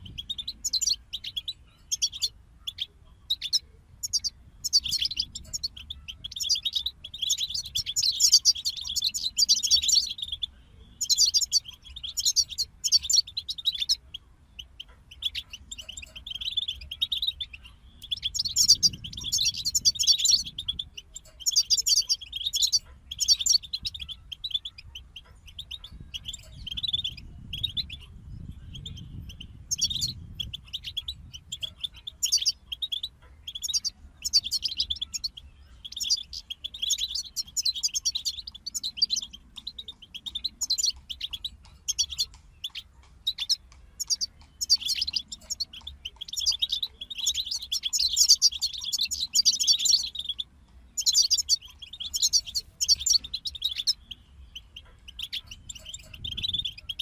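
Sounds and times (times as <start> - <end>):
finches twittering song: 0.0 - 57.0.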